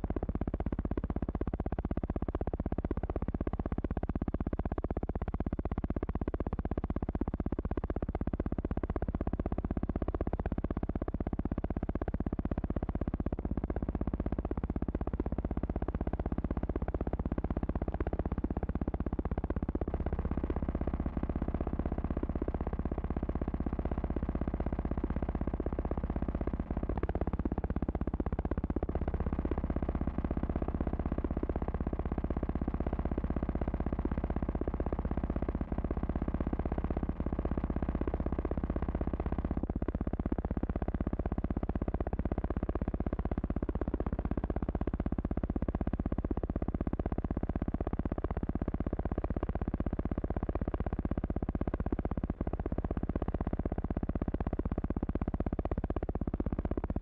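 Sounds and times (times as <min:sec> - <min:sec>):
electrical hum and drone: 0:00.0 - 0:57.0.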